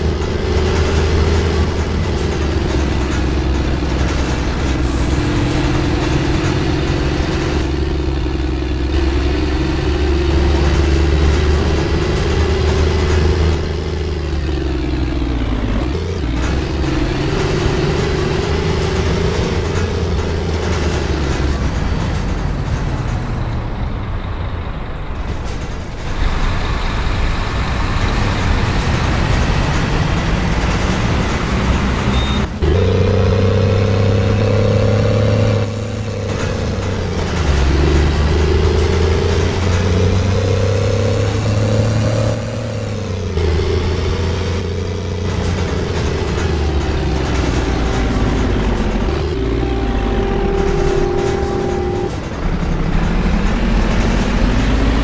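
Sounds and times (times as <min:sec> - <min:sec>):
bus diesel engine accelerating: 0:00.0 - 0:55.0.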